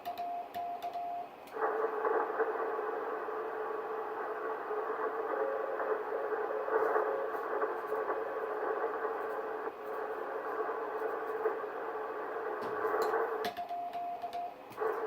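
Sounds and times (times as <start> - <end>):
faint morse signal tone: 0.0 - 15.0
radio band hiss: 1.5 - 15.0.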